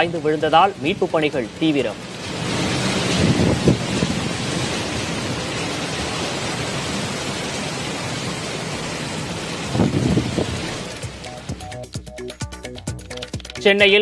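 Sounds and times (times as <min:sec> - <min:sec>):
rushing wind: 0:00.0 - 0:11.6
heavy rain: 0:00.0 - 0:12.0, 0:13.2 - 0:14.0.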